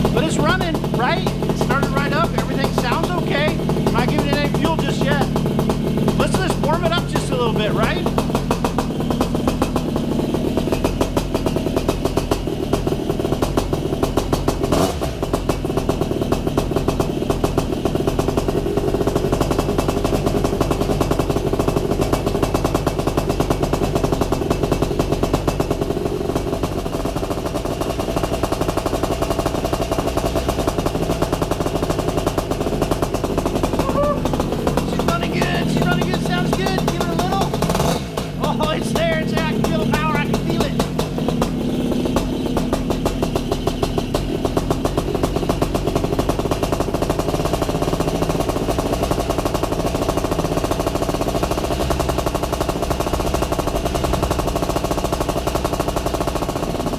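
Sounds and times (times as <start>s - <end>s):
paramotor engine running: 0.0s - 56.9s.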